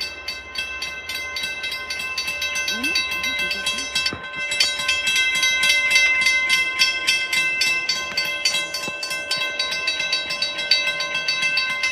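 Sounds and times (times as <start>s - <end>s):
railroad crossing bell ringing: 0.0s - 11.9s.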